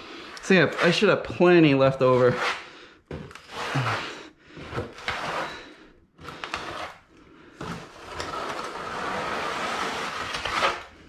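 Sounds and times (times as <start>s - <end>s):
trowel scraping epoxy: 0.2s - 7.0s, 7.6s - 10.9s.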